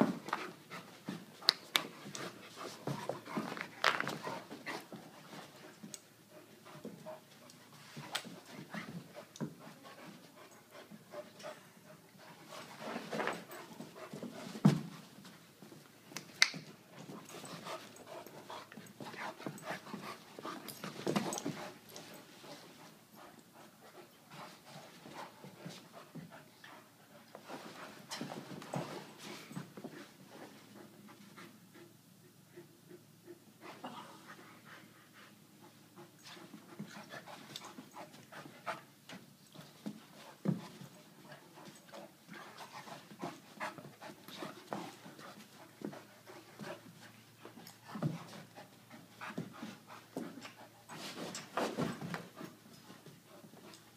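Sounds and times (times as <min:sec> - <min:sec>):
dogs play-wrestling noises: 0:00.0 - 0:53.9.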